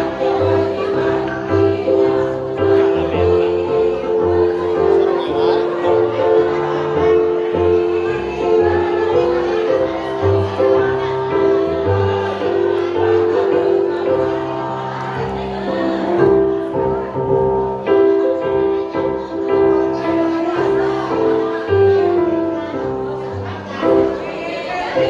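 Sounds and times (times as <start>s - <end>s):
adult choir singing: 0.0s - 25.0s.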